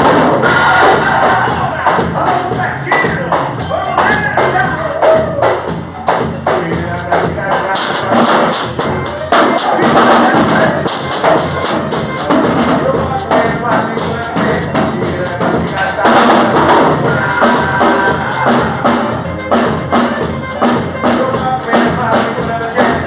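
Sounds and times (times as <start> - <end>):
drum kit beat: 0.0 - 23.0
person singing: 0.0 - 23.0.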